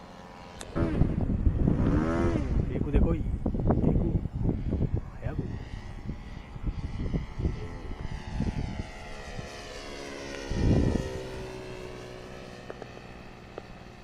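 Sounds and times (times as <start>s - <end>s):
model airplane engine whine: 0.0s - 14.0s
low rumble: 0.6s - 12.0s.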